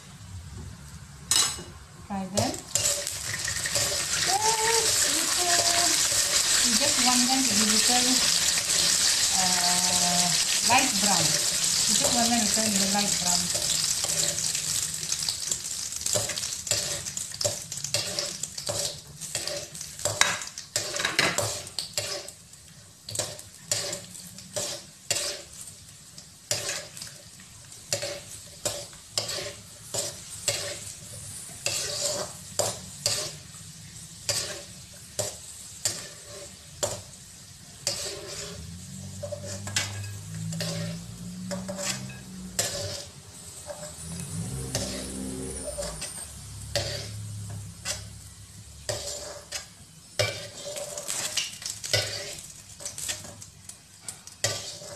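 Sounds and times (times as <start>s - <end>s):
nuts sizzling in oil: 2.1s - 54.9s
metal ladle scraping pan: 2.7s - 14.8s, 16.0s - 22.4s, 23.1s - 25.7s, 26.5s - 27.2s, 27.9s - 33.5s, 34.2s - 37.1s, 37.7s - 48.2s, 48.8s - 53.4s, 54.4s - 54.9s.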